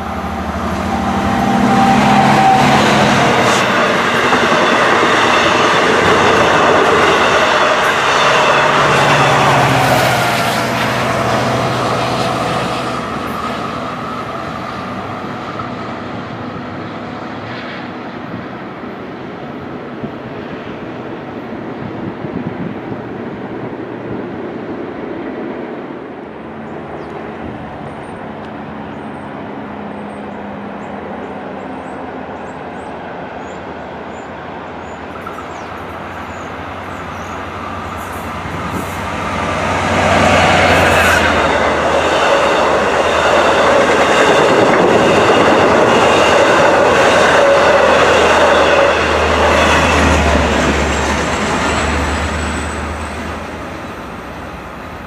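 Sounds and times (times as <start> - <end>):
train low hum: 0.0 - 55.0
train wheels on rails: 0.0 - 55.0.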